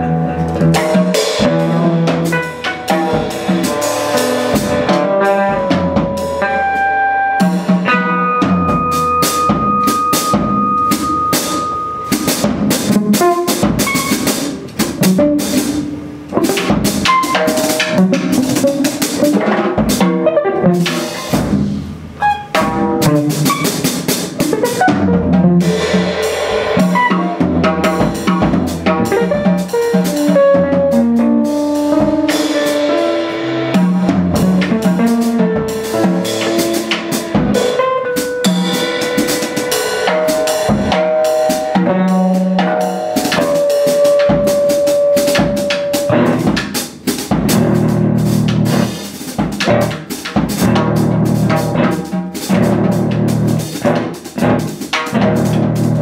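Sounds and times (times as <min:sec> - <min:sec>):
drum kit playing: 0:00.0 - 0:56.0.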